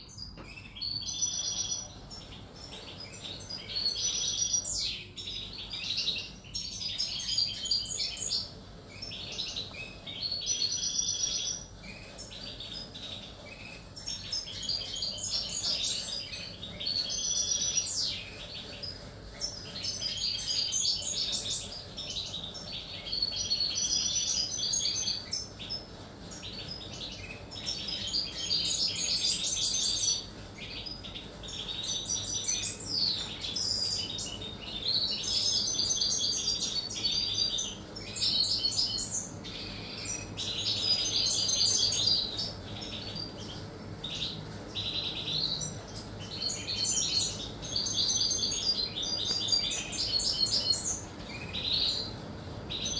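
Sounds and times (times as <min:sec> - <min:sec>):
finches twittering and trilling: 0:00.0 - 0:52.9.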